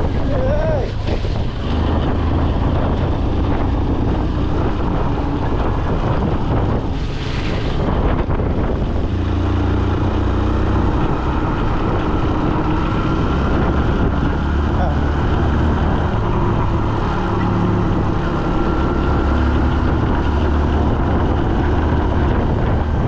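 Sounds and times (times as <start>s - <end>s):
vehicle engine running: 0.0s - 23.0s
wind on microphone: 0.0s - 23.0s.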